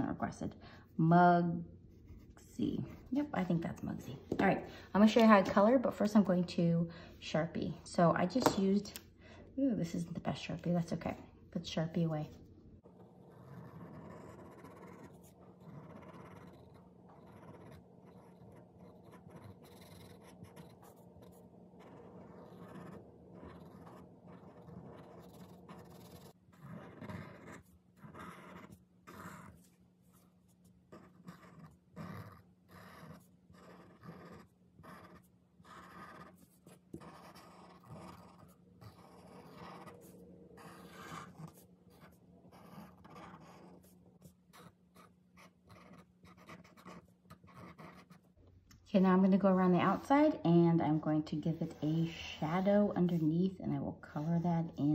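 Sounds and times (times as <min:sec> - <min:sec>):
marker drawing on paper: 0:10.0 - 0:54.9.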